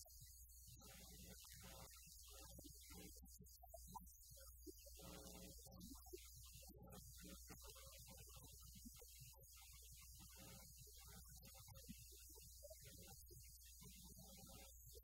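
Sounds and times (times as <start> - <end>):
low electrical hum: 0.0 - 14.8.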